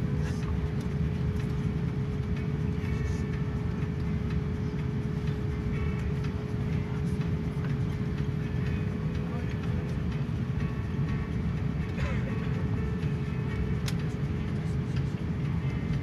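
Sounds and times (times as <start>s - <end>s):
airliner cabin rumble: 0.0s - 16.0s
constant hum: 0.0s - 16.0s.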